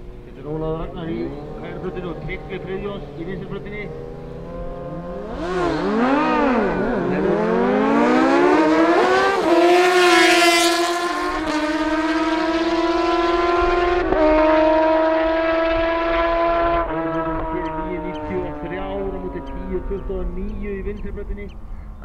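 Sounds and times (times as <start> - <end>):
motorcycles accelerating hard: 0.0 - 22.0.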